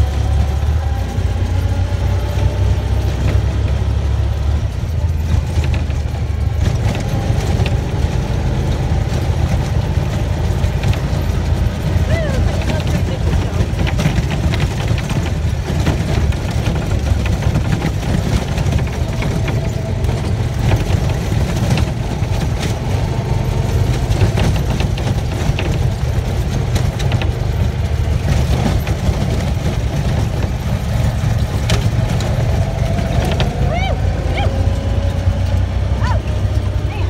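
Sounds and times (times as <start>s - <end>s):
engine and tyre rumble: 0.0s - 37.0s
rattles and knocks from bumps: 0.0s - 37.0s.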